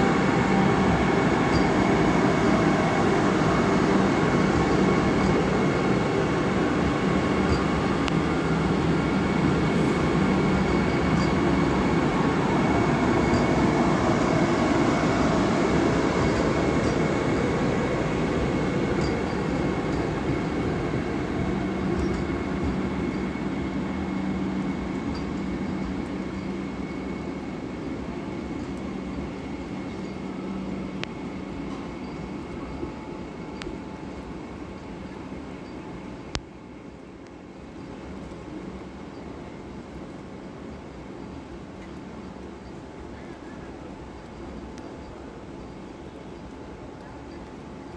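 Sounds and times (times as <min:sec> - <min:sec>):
electric train passing: 0:00.0 - 0:47.9.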